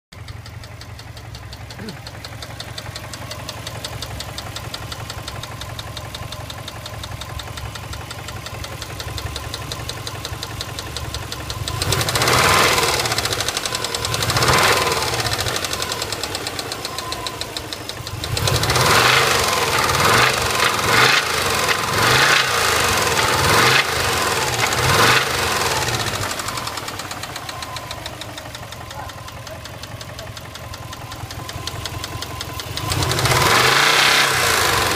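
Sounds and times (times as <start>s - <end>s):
car engine idling with knock: 0.1s - 34.9s
car engine revving: 1.7s - 34.9s.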